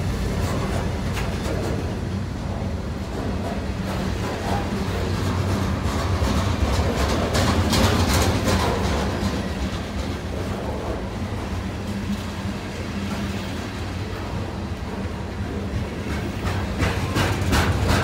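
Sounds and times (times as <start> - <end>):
clicking train wheels: 0.0 - 18.0
train rumble: 0.0 - 18.0.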